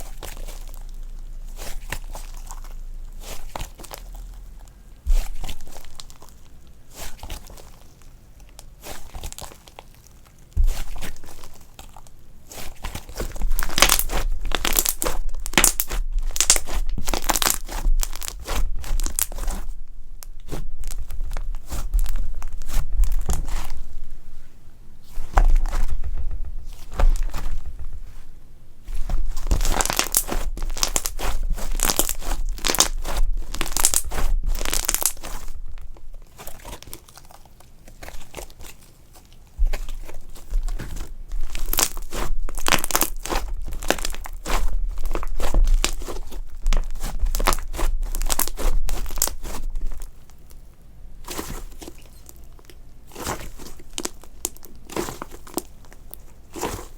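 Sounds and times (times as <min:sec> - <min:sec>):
slime crackling and tearing: 0:00.0 - 0:24.2, 0:25.0 - 0:28.2, 0:28.8 - 0:50.6, 0:51.2 - 0:56.9.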